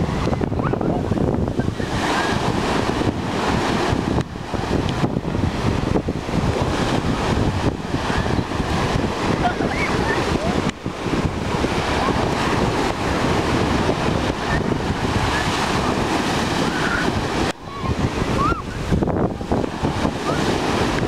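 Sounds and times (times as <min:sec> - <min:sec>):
sea surf breaking on beach: 0:00.0 - 0:21.0
wind buffeting microphone: 0:00.0 - 0:21.0.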